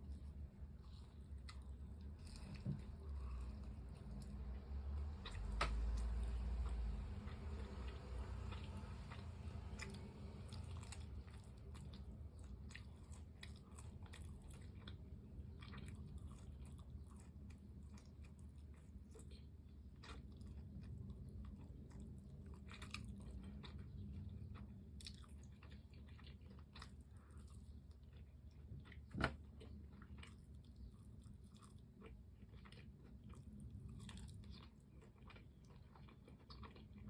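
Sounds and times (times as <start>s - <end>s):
person chewing crispy food: 0.0s - 37.0s.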